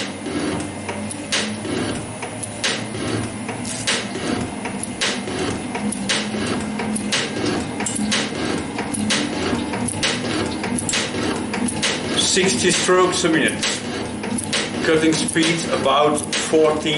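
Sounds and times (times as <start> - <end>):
machine hum: 0.0 - 16.9
metal shaper scraping cuts: 0.0 - 16.9.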